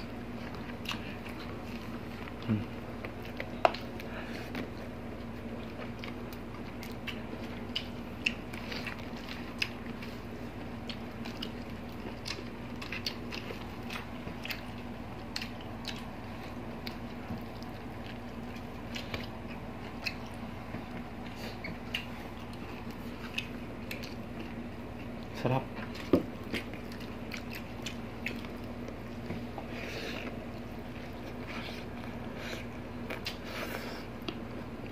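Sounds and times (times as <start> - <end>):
people chewing with wet smacks: 0.0 - 34.9.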